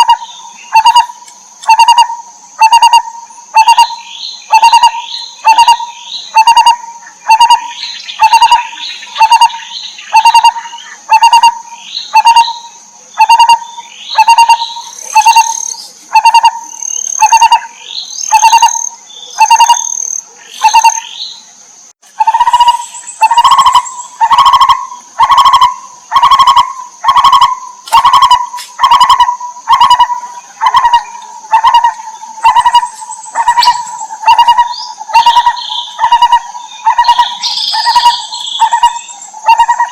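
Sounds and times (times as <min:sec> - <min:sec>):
barbet calling low notes: 0:00.0 - 0:21.2, 0:22.2 - 0:39.9
bird chirps: 0:00.0 - 0:21.5, 0:22.2 - 0:39.9.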